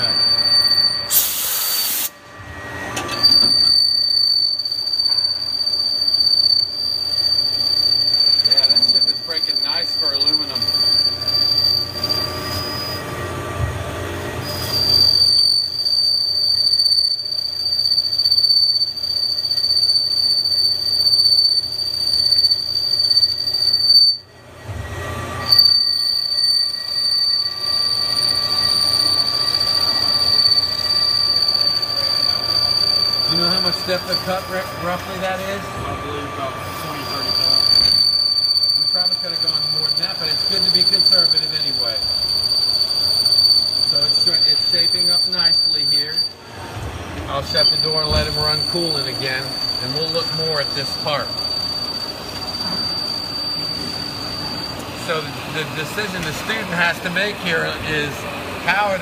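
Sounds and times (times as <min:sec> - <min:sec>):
high-pitched lathe squeal: 0:00.0 - 0:13.6, 0:14.3 - 0:59.0.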